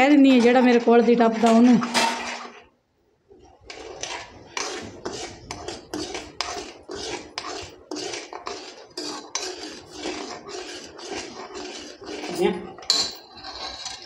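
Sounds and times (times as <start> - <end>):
steel ladle scraping a pan: 0.0 - 2.7, 3.3 - 14.0.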